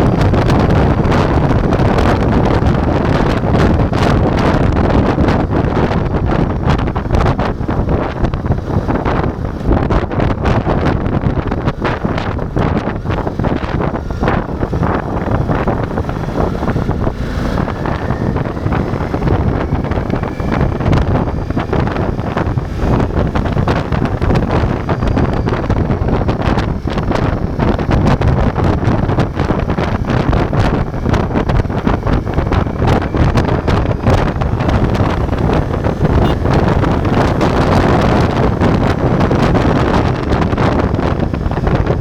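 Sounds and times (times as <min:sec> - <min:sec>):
motorcycle engine running: 0:00.0 - 0:42.0
wind rumble on microphone: 0:00.0 - 0:42.0.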